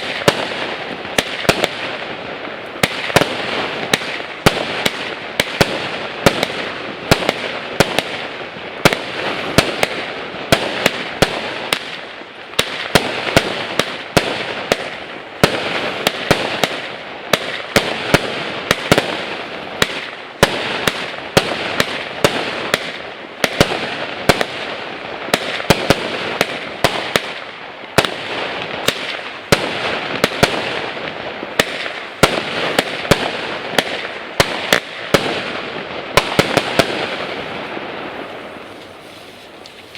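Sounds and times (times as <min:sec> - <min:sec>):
firework cake bangs: 0:02.8 - 0:37.4.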